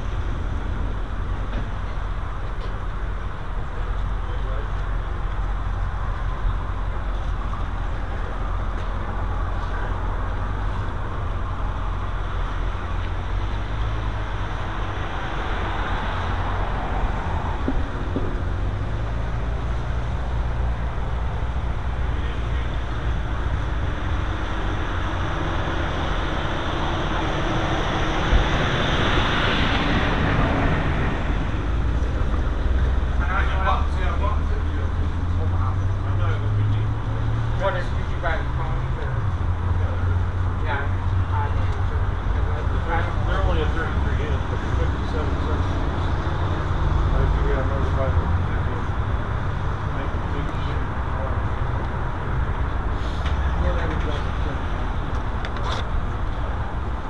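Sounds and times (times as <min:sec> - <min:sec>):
low rumbling noise: 0:00.0 - 0:57.0.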